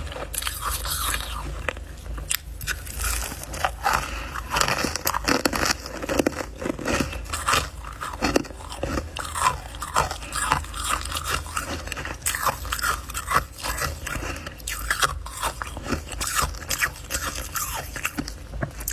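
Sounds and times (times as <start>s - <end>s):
chewing crunchy ice: 0.0s - 18.9s.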